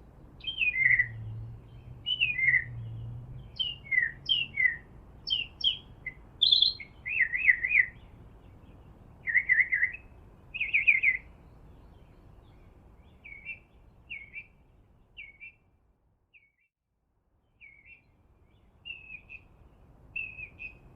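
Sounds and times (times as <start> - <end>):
songbird singing: 0.0 - 16.7, 17.3 - 20.9.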